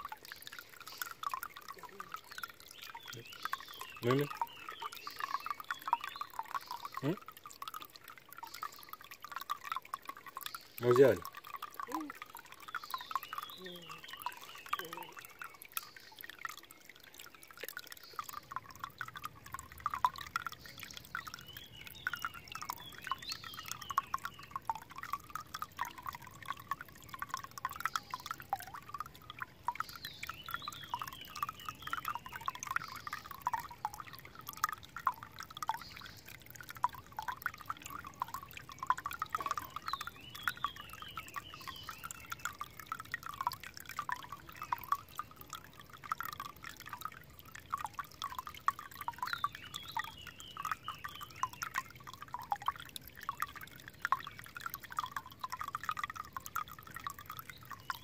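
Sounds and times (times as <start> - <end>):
water trickling into a pool: 0.0 - 58.0.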